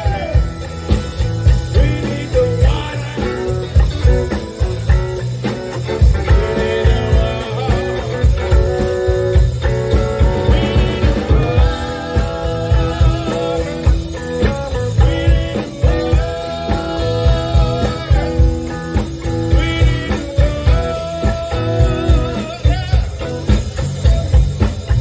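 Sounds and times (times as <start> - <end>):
live blues band playing: 0.0 - 25.0.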